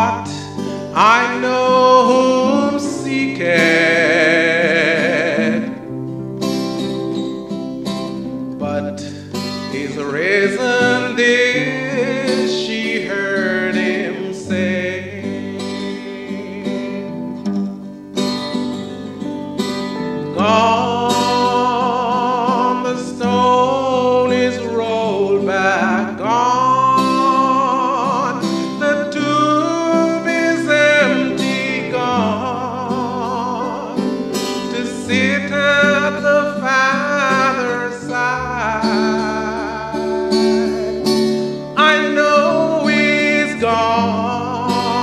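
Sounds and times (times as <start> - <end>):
man singing gospel: 0.0 - 5.9, 8.6 - 17.4, 20.3 - 45.0
acoustic guitar: 0.0 - 45.0.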